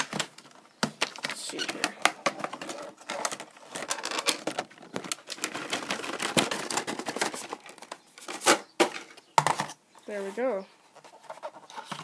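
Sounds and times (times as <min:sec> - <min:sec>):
packaging clicks and rustles: 0:00.0 - 0:09.8.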